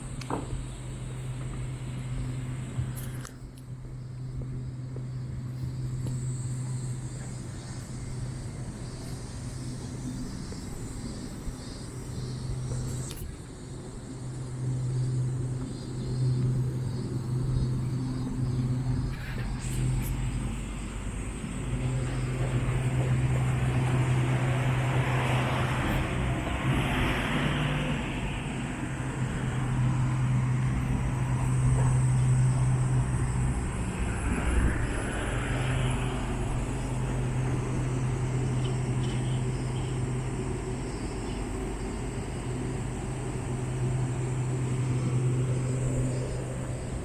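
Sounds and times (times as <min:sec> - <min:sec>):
traffic engine hum: 0:00.0 - 0:47.0.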